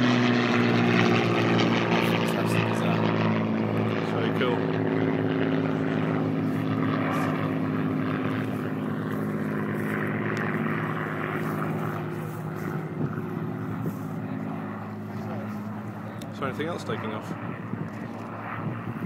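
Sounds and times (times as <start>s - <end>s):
propeller aircraft engines droning: 0.0s - 19.0s.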